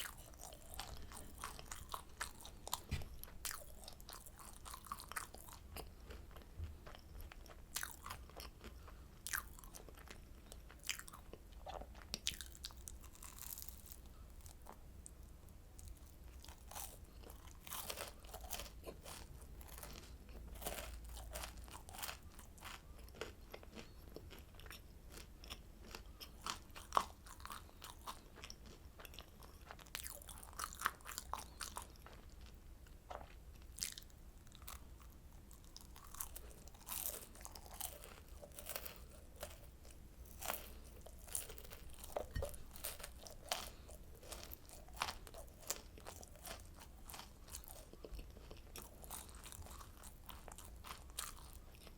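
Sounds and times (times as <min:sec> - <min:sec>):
crunchy candy chewing: 0:00.0 - 0:51.9.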